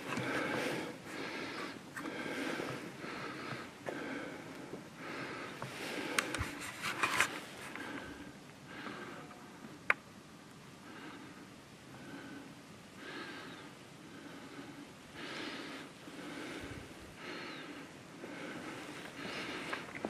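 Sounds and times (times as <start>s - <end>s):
person breathing through nose: 0.0s - 9.3s, 10.8s - 20.0s.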